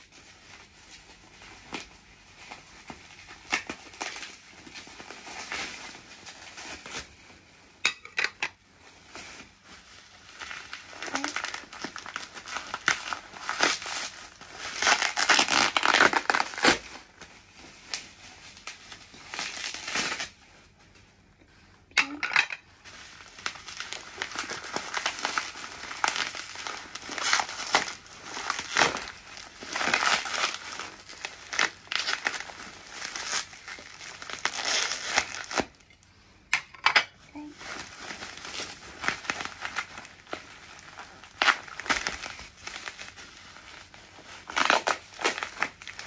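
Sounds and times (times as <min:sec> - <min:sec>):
bubble wrap crinkling: 0:00.0 - 0:36.4, 0:37.2 - 0:46.0.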